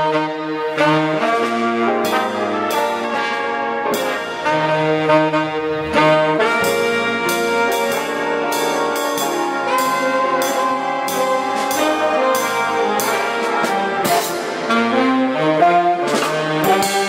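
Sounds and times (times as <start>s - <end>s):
jazz big band playing: 0.0s - 17.0s.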